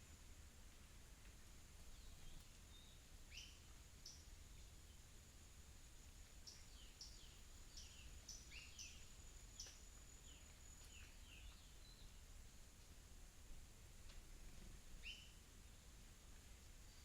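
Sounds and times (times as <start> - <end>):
faint birds chirping: 1.5 - 13.0, 14.0 - 17.0.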